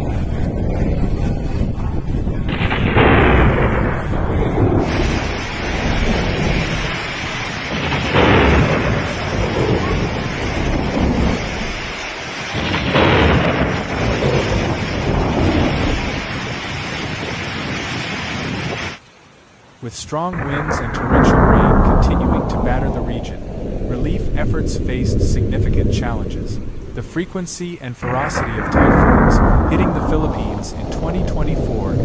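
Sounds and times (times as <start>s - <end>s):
strong wind: 0.0s - 19.0s, 20.1s - 32.0s
wind buffeting microphone: 0.0s - 19.0s, 20.3s - 32.0s
heavy rain: 2.0s - 32.0s.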